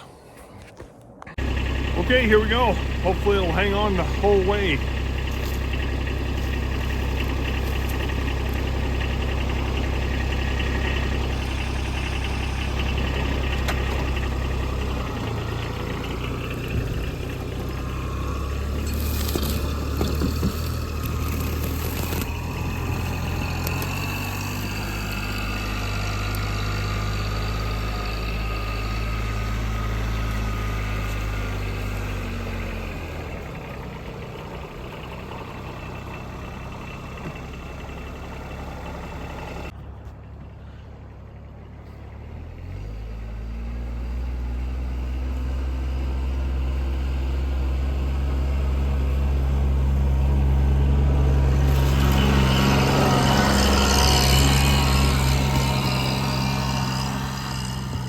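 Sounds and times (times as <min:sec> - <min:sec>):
diesel engine running: 0:00.7 - 0:58.0.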